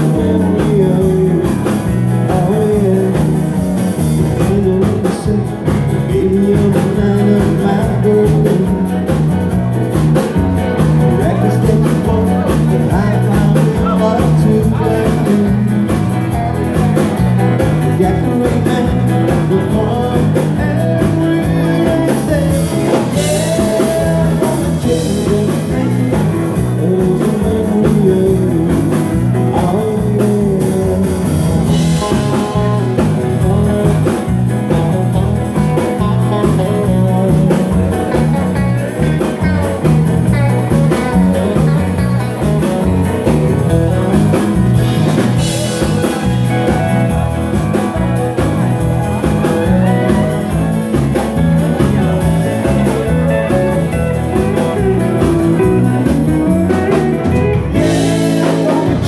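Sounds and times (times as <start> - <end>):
dance band playing up-tempo music: 0.0 - 59.0.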